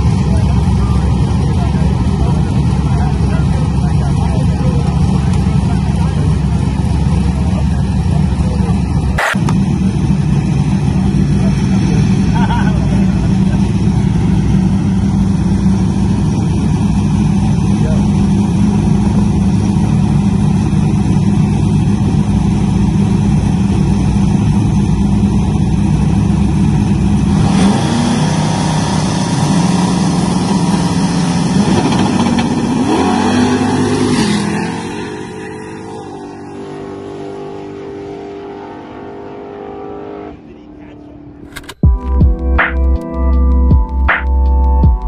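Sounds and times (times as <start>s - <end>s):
drag racing car engines: 0.0s - 41.8s.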